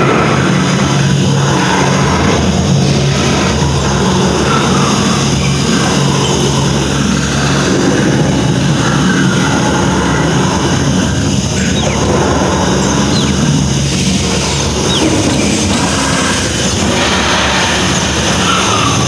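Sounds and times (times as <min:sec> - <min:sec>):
ride machinery humming: 0:00.0 - 0:19.0.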